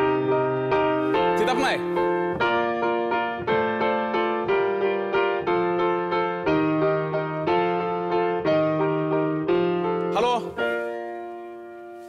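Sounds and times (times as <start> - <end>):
piano piece: 0.0 - 12.0.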